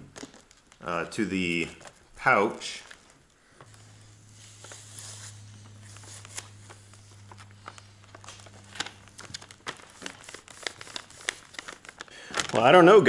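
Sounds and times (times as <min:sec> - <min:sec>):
steady low hum: 0:00.0 - 0:12.5
faint plastic crinkling: 0:00.0 - 0:13.0.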